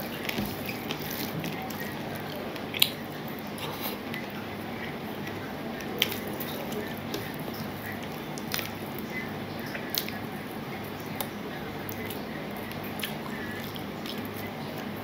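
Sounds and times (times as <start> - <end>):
wet squishing of food by hand: 0.0 - 15.0.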